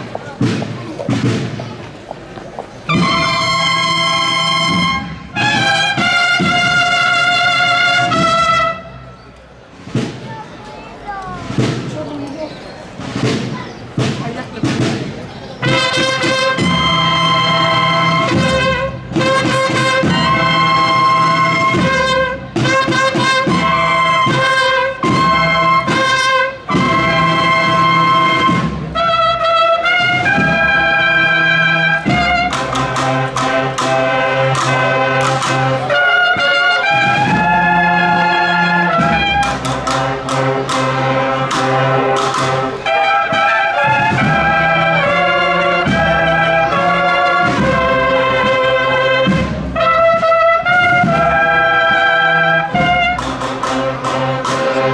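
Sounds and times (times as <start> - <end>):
brass band playing a march: 0.0 - 9.1, 9.7 - 10.2, 11.4 - 12.2, 13.0 - 54.9.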